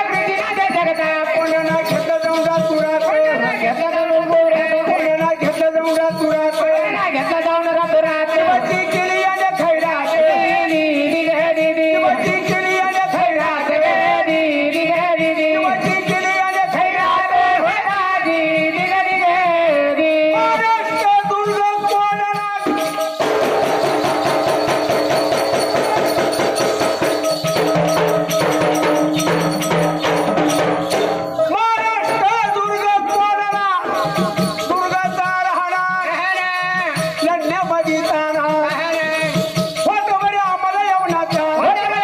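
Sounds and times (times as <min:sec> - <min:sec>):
drumming: 0:00.0 - 0:42.0.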